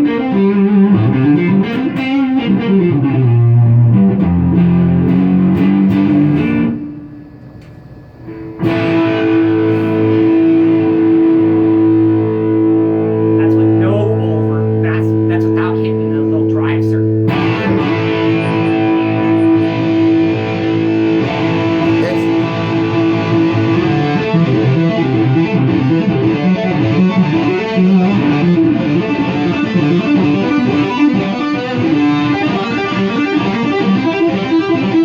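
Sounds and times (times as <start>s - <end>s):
electric guitar through amp: 0.0s - 35.0s.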